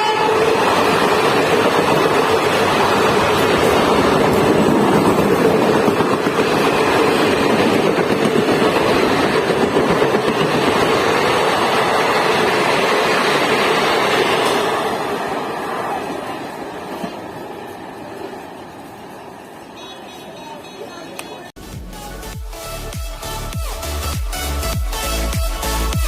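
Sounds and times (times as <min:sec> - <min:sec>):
train passing at speed: 0:00.0 - 0:21.5.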